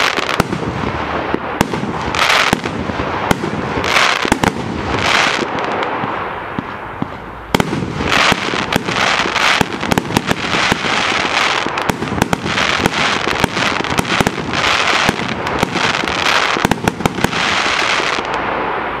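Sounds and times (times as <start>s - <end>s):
firework bursts: 0.0s - 19.0s.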